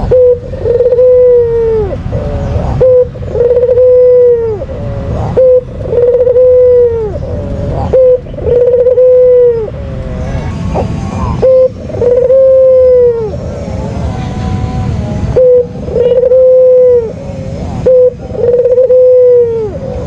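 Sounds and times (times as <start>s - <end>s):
dove cooing: 0.0s - 20.0s
steady low rumble: 0.0s - 20.0s.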